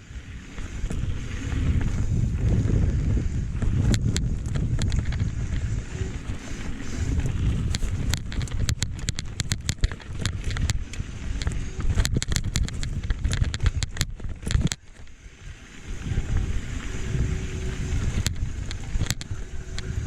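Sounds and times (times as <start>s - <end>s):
mountain bike rattling on dirt trail: 0.0s - 20.0s
wind buffeting microphone: 0.0s - 20.0s.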